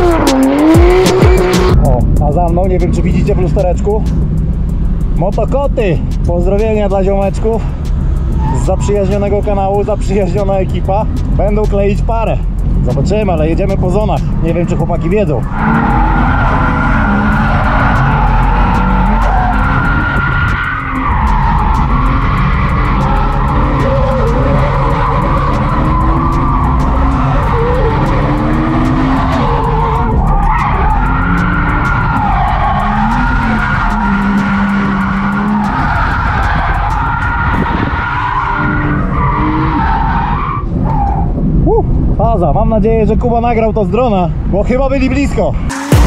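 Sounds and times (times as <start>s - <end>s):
car engine revving: 0.0s - 42.2s, 44.2s - 46.0s
tyres skidding and screeching: 0.0s - 46.0s.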